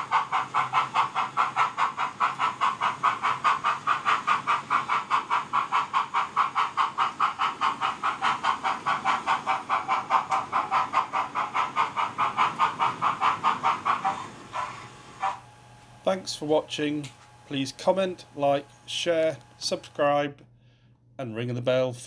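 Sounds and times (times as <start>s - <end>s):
model steam locomotive chuffing: 0.0s - 20.2s.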